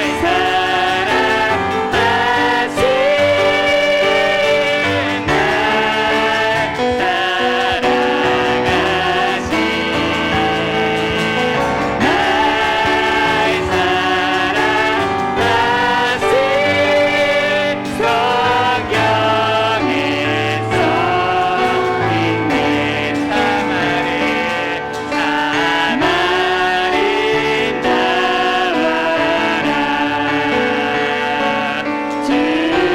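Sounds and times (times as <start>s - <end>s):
group singing a worship song: 0.0s - 32.9s
piano accompaniment: 0.0s - 32.9s.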